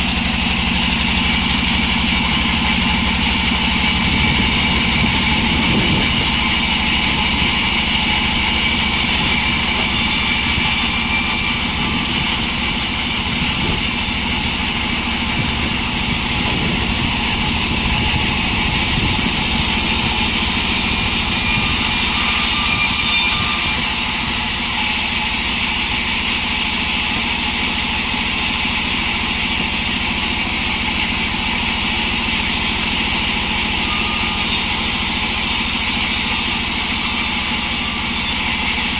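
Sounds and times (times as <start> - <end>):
engine-driven sawmill running: 0.0 - 38.9.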